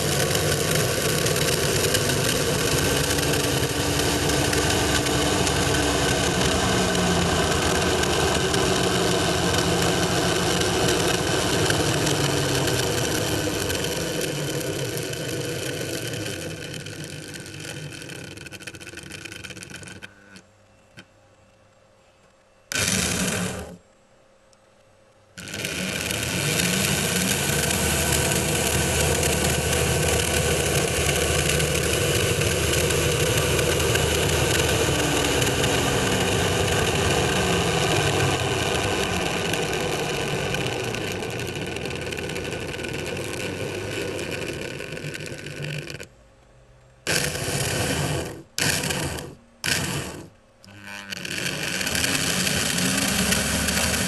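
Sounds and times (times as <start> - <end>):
model locomotive motor and gears: 0.0 - 20.4, 22.7 - 23.8, 25.4 - 46.1, 47.0 - 54.0.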